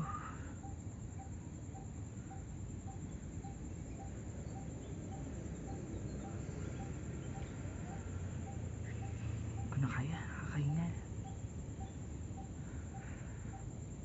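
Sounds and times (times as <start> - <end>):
distant animal calling: 0.0 - 14.0
low steady rumble: 0.0 - 14.0.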